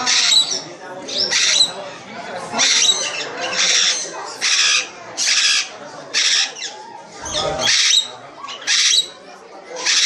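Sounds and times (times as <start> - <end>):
parrot screeching: 0.0 - 1.8, 2.6 - 9.2, 9.8 - 10.0.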